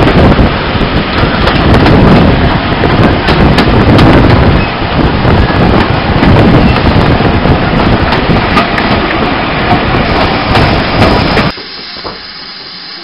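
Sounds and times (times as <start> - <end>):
wind buffeting microphone: 0.0 - 11.5
moving steam train rumble: 0.0 - 13.0.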